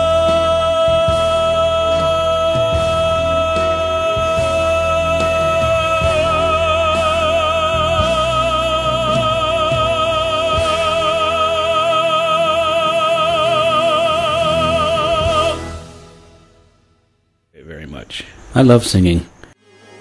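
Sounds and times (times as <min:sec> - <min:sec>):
man singing with vibrato: 0:00.0 - 0:16.1.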